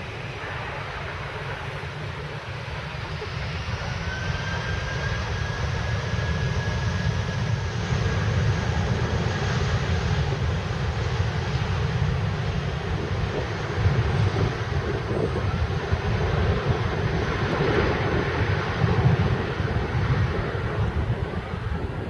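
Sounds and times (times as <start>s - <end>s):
high-pitched engine whine: 0.0s - 22.0s
jet engines rumbling at takeoff: 0.0s - 22.0s.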